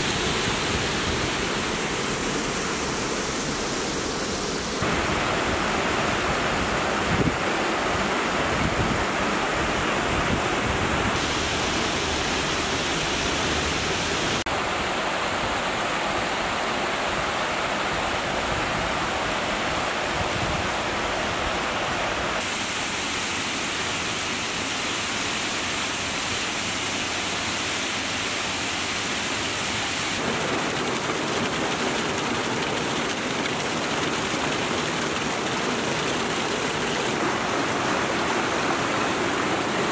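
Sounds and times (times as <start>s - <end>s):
water rushing over boulders: 0.0s - 39.9s.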